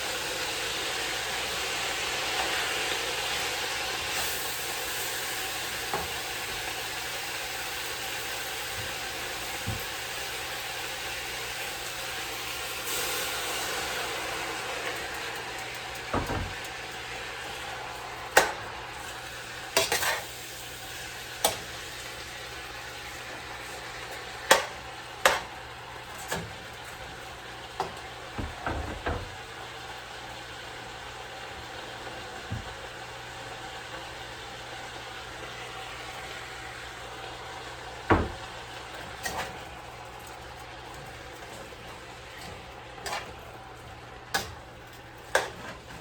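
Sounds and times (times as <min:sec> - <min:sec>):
cabbage sizzling in a pan: 0:00.0 - 0:46.0.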